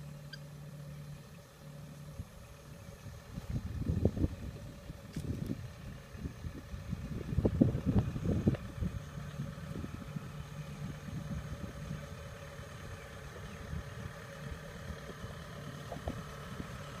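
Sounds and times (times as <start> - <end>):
diesel engine running: 0.0 - 17.0
engine knocks: 3.2 - 17.0.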